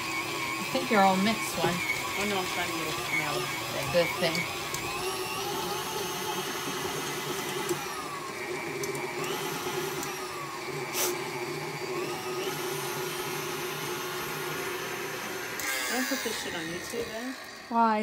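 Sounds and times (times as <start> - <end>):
stand mixer motor running: 0.0 - 18.0.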